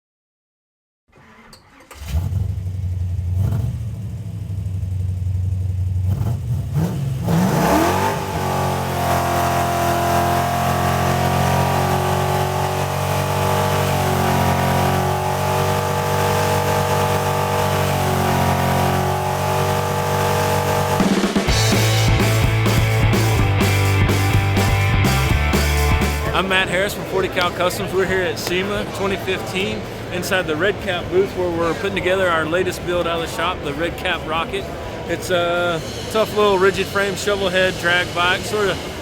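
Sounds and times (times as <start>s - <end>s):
engine running: 1.9s - 39.0s.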